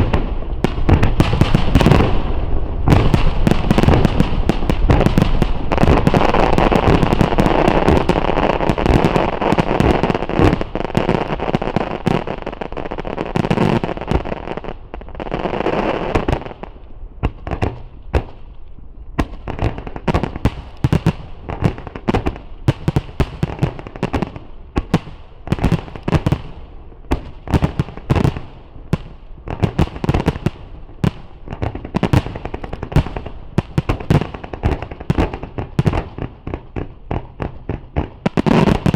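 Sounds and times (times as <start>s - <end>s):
fireworks bursts and crackling: 0.0s - 18.6s, 19.2s - 38.9s.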